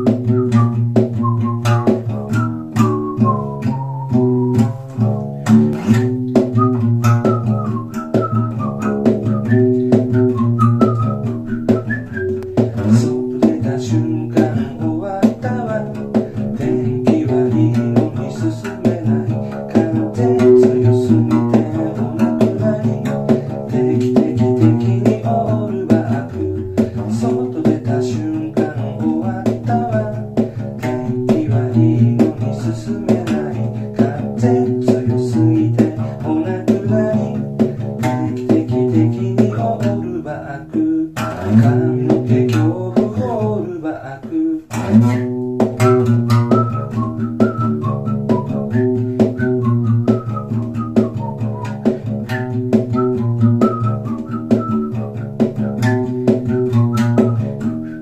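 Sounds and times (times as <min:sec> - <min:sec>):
plucked string instrument tune: 0:00.0 - 0:58.0.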